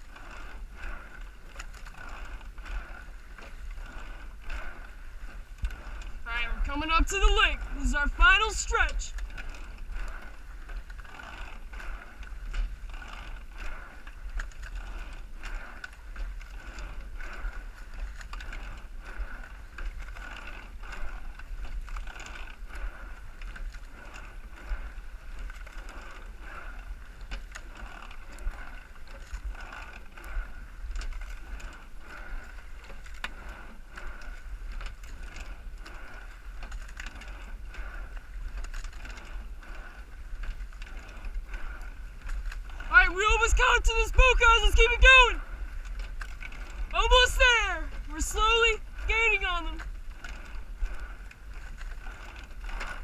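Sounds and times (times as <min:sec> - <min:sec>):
oars clunking in oarlocks: 0:00.0 - 0:53.0.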